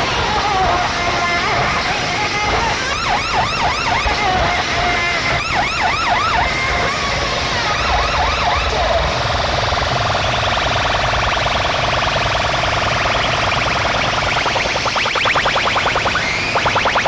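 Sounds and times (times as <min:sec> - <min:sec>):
electronic siren effects: 0:00.0 - 0:17.0
high tone with chirping pulses: 0:02.4 - 0:17.0.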